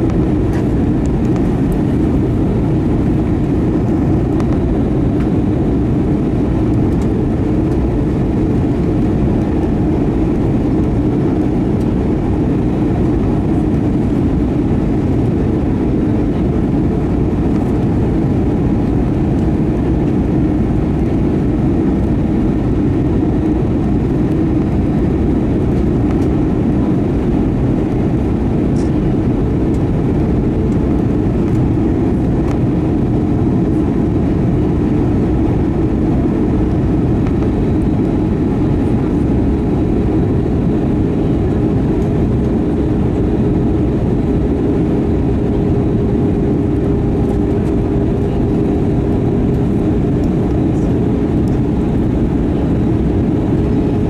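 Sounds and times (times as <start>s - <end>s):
turbofan engine hum: 0.0s - 54.0s.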